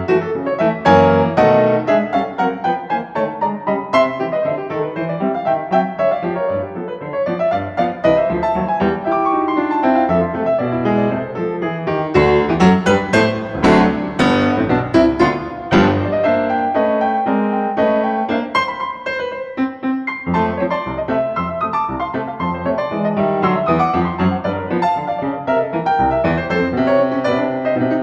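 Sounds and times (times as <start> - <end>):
piano music quick notes: 0.0 - 28.0.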